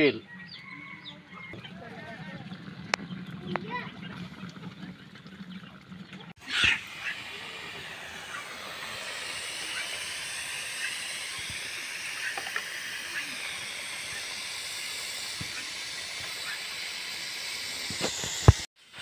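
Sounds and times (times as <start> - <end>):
steam hissing from clay pot: 1.5 - 4.7, 6.4 - 19.0.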